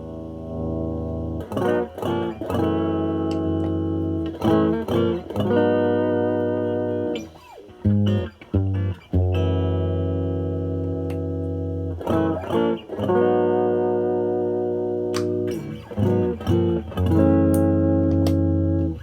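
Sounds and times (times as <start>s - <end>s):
electric guitar chords: 0.0s - 19.0s.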